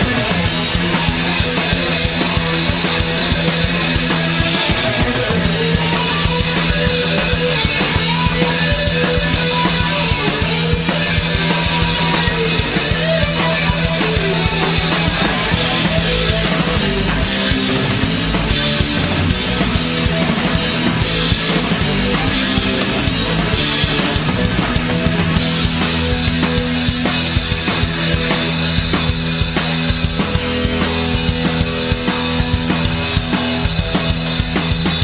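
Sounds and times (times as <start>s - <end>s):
drum kit: 0.0s - 35.0s
electric guitar: 0.0s - 35.0s.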